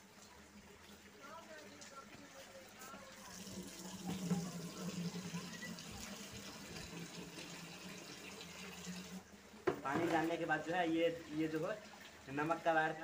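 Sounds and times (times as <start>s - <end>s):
water trickling into pipe: 0.0s - 13.0s.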